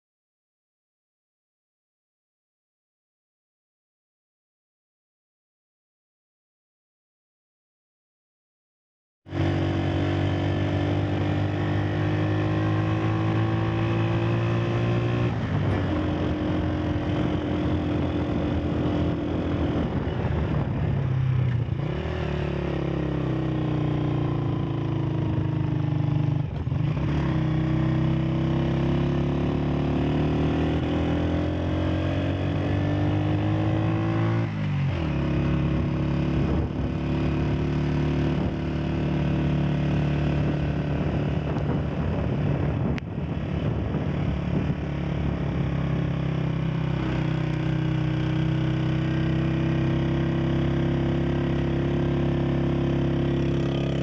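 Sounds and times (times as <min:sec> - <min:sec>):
motorcycle engine running: 0:09.3 - 0:54.0.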